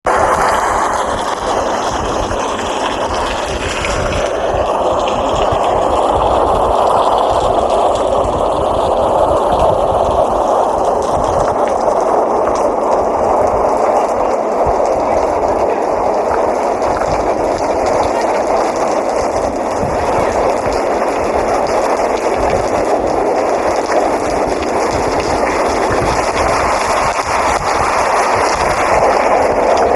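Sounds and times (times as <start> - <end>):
steady rain hiss: 0.1 - 29.9.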